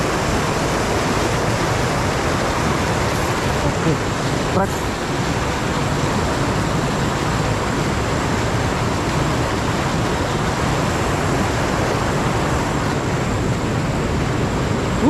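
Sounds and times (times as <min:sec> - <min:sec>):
river rapids rushing over rocks: 0:00.0 - 0:15.0.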